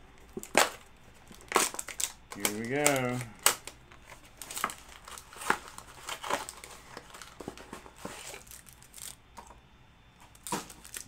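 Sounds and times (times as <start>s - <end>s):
card pack wrapper crinkling and tearing: 0.3s - 9.2s, 10.2s - 11.0s.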